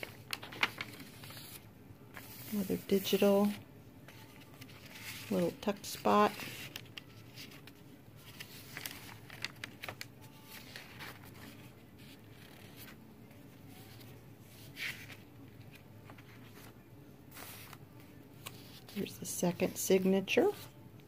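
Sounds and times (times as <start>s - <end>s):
paper pages rustling: 0.0s - 13.0s, 13.8s - 19.7s.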